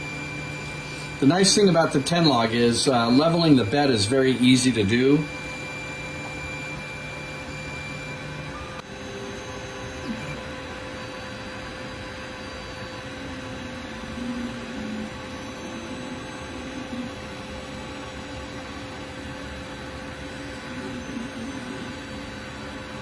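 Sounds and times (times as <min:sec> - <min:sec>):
printer fans whirring: 0:00.0 - 0:23.0
stepper motors whining: 0:00.0 - 0:23.0.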